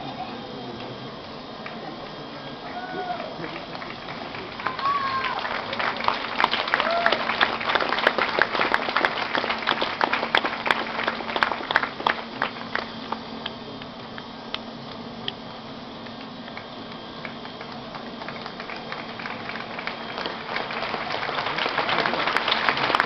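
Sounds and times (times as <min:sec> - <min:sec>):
applause: 0:01.6 - 0:13.6, 0:16.0 - 0:23.0.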